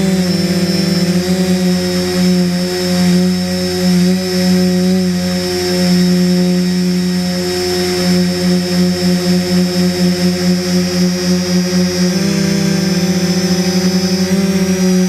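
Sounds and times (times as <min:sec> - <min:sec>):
drone motors humming and whining: 0:00.0 - 0:15.0.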